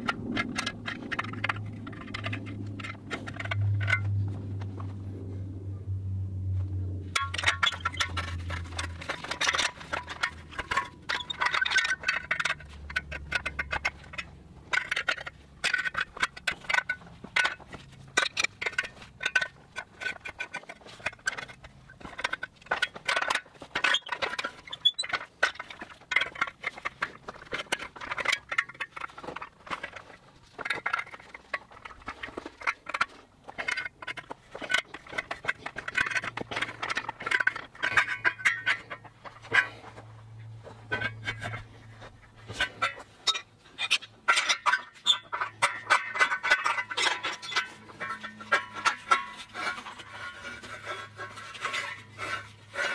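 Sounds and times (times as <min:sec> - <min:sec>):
wrenches clinking on metal: 0:00.0 - 0:04.2, 0:07.1 - 0:39.9, 0:40.8 - 0:52.9.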